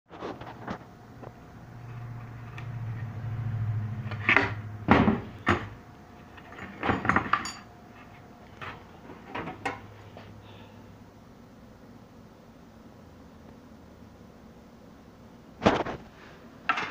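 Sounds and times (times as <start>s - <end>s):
steady low hum: 0.1s - 16.9s.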